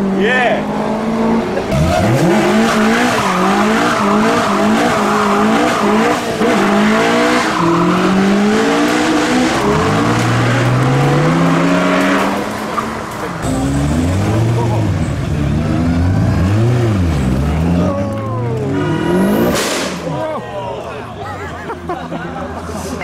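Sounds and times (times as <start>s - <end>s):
car engine revving: 0.0s - 20.2s
car accelerating away: 0.0s - 20.3s
tyres squealing and skidding: 1.4s - 20.4s.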